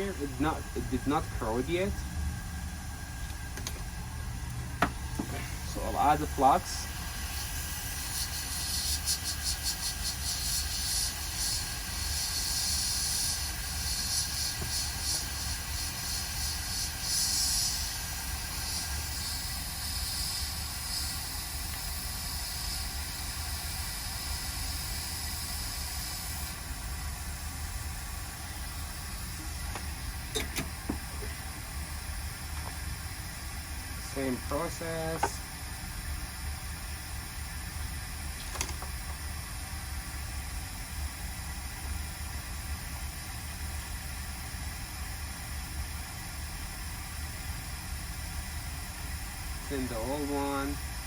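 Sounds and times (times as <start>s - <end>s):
hot air rework station hissing: 0.0s - 51.0s.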